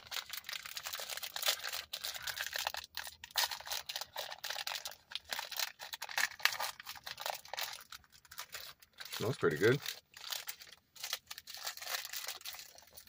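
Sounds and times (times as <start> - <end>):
plastic wrapper crackling: 0.0 - 13.0.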